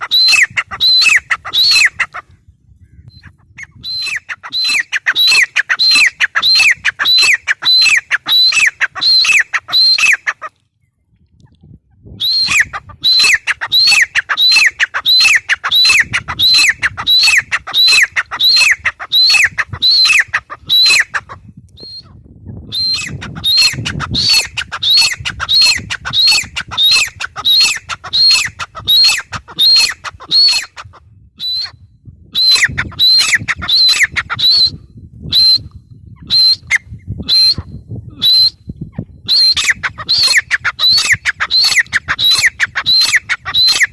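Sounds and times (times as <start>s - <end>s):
bird calling shrill repeated notes: 0.0s - 2.2s, 3.0s - 10.3s, 12.2s - 22.1s, 22.7s - 30.8s, 31.4s - 38.7s, 39.3s - 43.9s.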